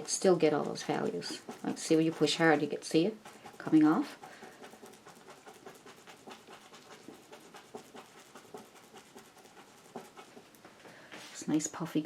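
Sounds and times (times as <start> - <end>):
paintbrush dabbing on canvas: 0.0 - 12.0.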